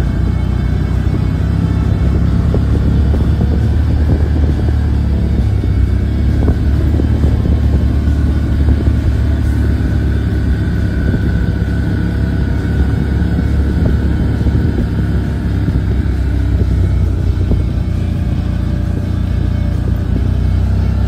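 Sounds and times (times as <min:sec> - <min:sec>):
utility vehicle engine drone: 0:00.0 - 0:21.0.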